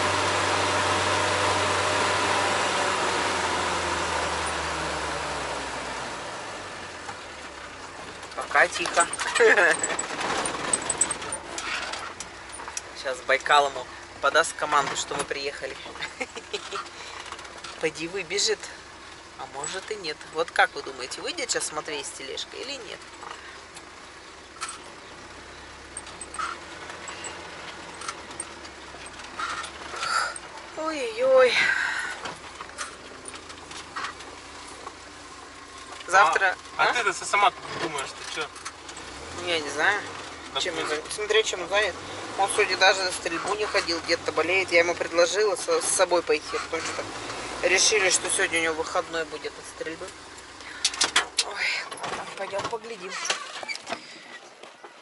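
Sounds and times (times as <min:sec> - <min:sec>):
road noise: 0:00.0 - 0:55.0
vehicle engine hum: 0:00.0 - 0:55.0.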